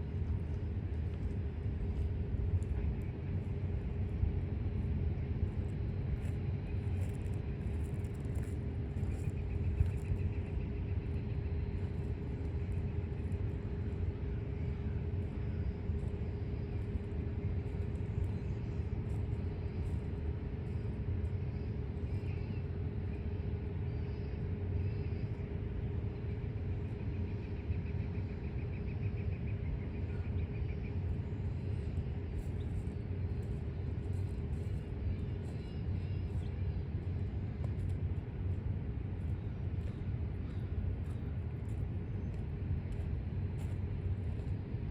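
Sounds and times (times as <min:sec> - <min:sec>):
constant low hum: 0:00.0 - 0:44.9.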